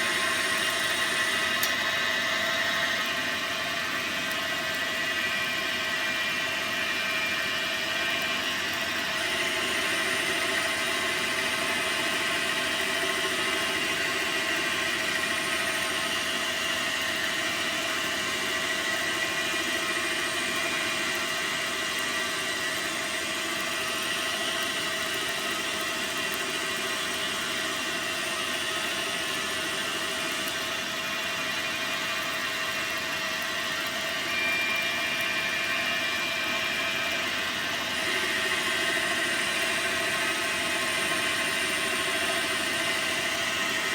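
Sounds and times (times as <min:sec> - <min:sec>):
lathe motor whine: 0:00.0 - 0:43.9.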